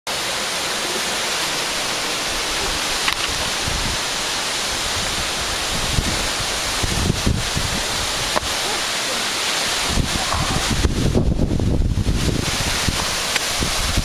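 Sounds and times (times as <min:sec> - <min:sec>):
waterfall pouring heavily: 0:00.1 - 0:14.0
wind buffeting microphone: 0:01.6 - 0:08.9, 0:09.6 - 0:14.0.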